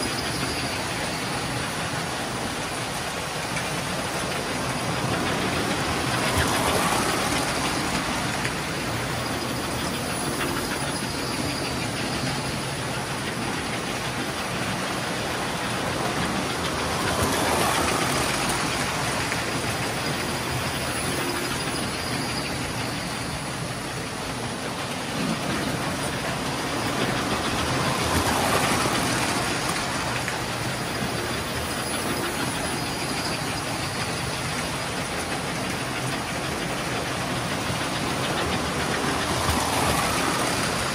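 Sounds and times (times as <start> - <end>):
model train wheels clattering: 0.0 - 40.9.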